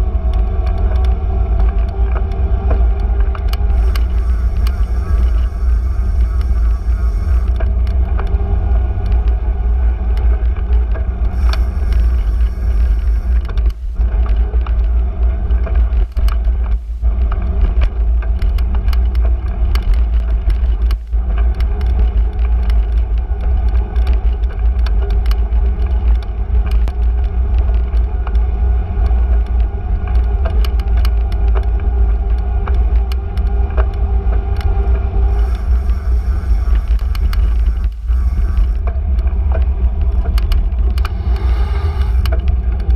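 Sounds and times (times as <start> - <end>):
bicycle ride rumble: 0.0 - 42.9
small clicks and rattles: 0.0 - 42.9.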